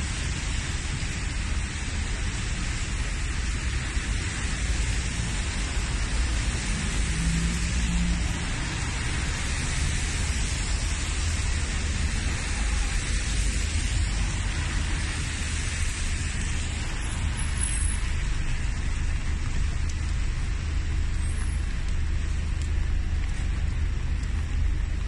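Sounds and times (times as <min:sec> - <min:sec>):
rumble of passing cars: 0:00.0 - 0:25.0
tyres hissing on wet road: 0:00.0 - 0:25.0.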